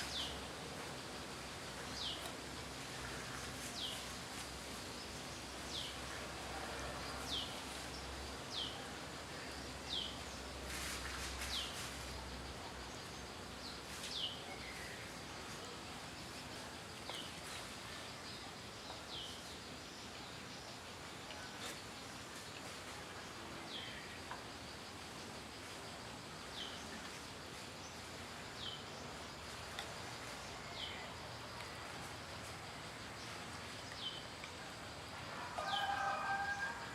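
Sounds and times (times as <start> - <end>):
outdoor background hiss: 0.0 - 36.9.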